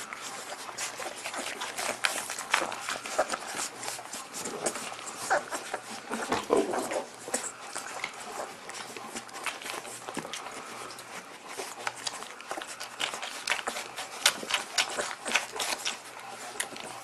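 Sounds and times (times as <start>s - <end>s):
puppies' claws clicking and scratching: 0.0s - 17.0s.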